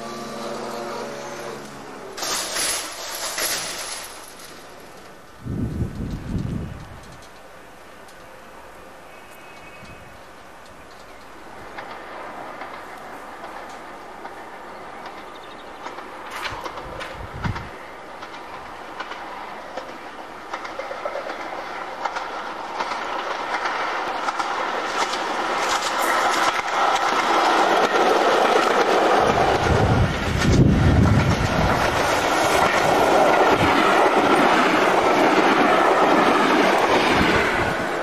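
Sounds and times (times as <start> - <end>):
deep train rumble: 0.0 - 7.4, 9.5 - 38.0
train wheels clacking: 0.0 - 8.3, 10.6 - 38.0.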